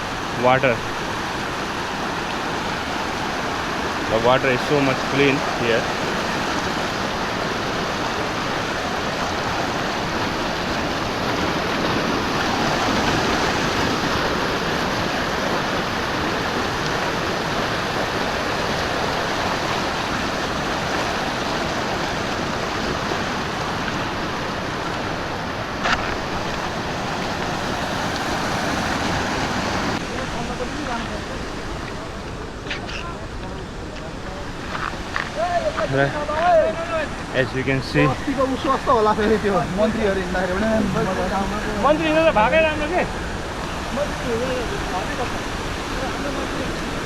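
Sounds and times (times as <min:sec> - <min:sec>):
stream water rushing: 0:00.0 - 0:47.0.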